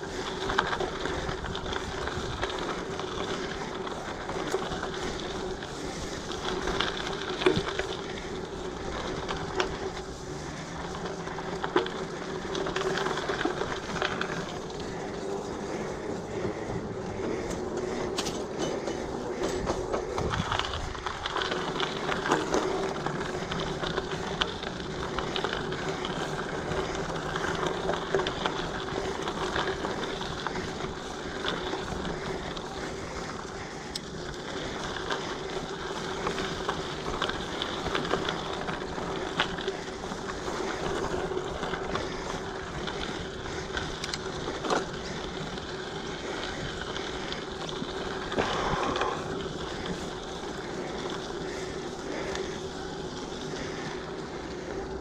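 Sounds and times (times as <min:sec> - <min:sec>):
bike clicks and rattles: 0:00.0 - 0:55.0
bike tyres crunching on gravel: 0:00.0 - 0:55.0.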